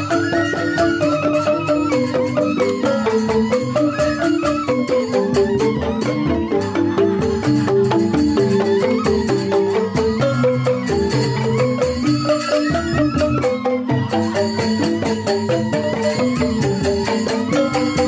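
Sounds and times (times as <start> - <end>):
bamboo xylophones playing: 0.0 - 18.0.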